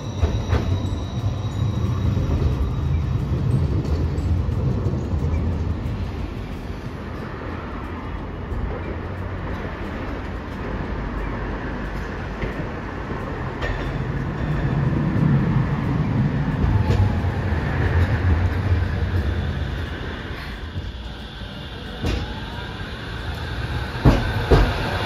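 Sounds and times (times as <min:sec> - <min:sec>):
tram rumbling on rails: 0:00.0 - 0:25.0.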